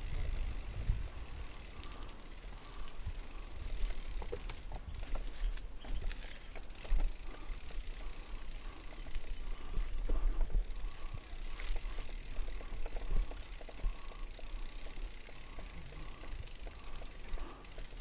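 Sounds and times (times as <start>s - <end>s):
bicycle freehub buzzing: 0.0s - 18.0s
chain and bike rattling: 0.0s - 18.0s.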